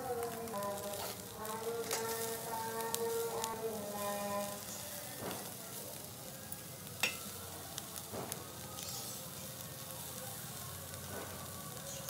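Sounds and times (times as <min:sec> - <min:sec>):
fish sizzling on a grill: 0:00.0 - 0:12.0
sharp crackles: 0:00.0 - 0:12.0.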